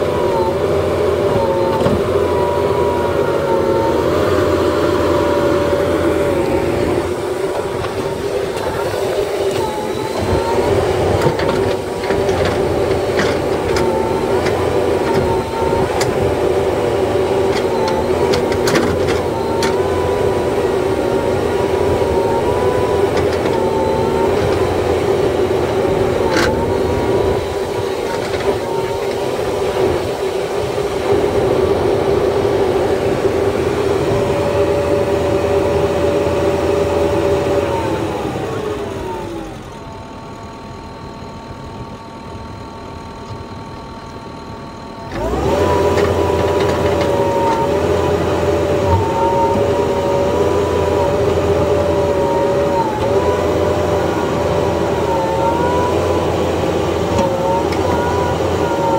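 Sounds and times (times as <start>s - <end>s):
diesel engine running under load: 0.0s - 58.9s.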